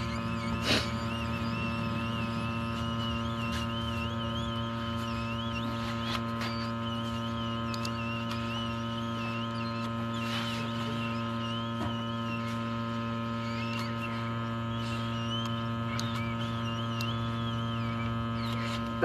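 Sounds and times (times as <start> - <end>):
electrical mains hum: 0.0 - 19.0
faint wavering high whistle: 0.0 - 19.0.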